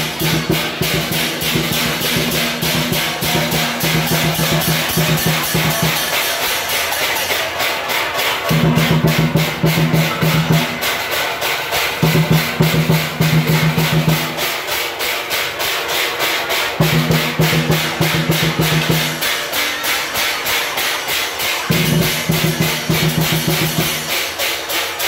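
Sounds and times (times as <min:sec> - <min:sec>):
cymbals clashing: 0:00.0 - 0:25.0
drums beating: 0:00.0 - 0:25.0.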